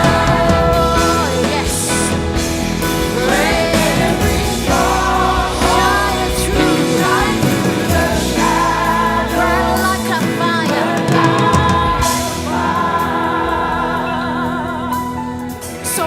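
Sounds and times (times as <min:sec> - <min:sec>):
band playing worship music: 0:00.0 - 0:16.0
singers holding long notes: 0:00.0 - 0:16.0.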